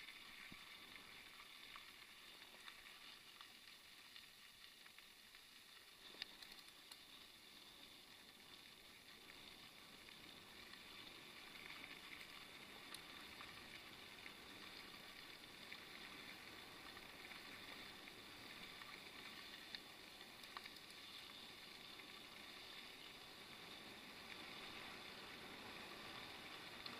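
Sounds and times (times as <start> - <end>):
bicycle rolling on gravel: 0.0 - 26.9.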